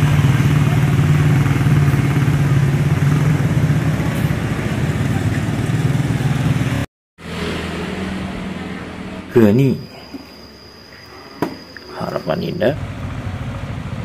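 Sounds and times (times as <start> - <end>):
bus engine running: 0.0 - 14.0
motorbikes passing: 0.0 - 14.0
street sound: 0.0 - 14.0.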